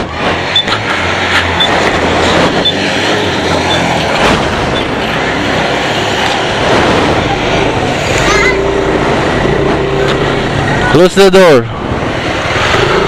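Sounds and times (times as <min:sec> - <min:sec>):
road and vehicle noise: 0:00.0 - 0:13.0.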